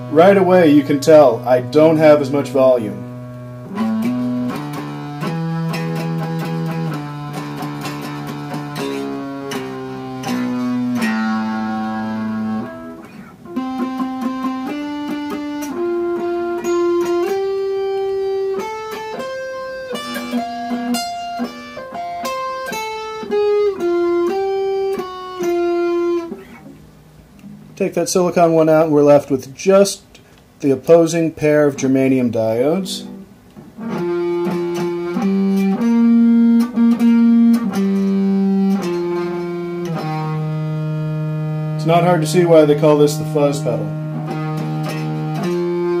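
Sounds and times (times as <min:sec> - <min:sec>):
distorted electric guitar: 0:00.0 - 0:28.6, 0:31.6 - 0:46.0.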